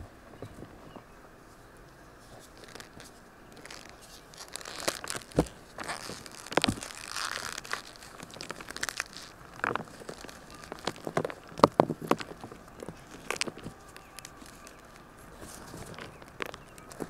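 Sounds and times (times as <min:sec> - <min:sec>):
chalk crunching and crackling: 0:01.5 - 0:17.0
chalk pieces snapping: 0:02.4 - 0:17.0.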